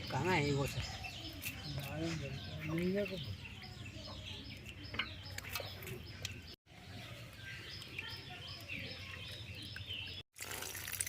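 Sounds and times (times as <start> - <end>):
birds chirping: 0.0 - 10.3
low outdoor background noise: 0.0 - 11.0.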